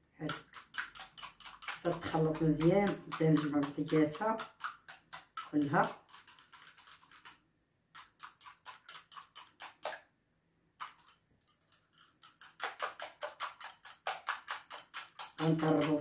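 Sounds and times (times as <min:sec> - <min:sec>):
whisk clinking against bowl: 0:00.3 - 0:07.3, 0:08.0 - 0:09.9, 0:10.9 - 0:16.0.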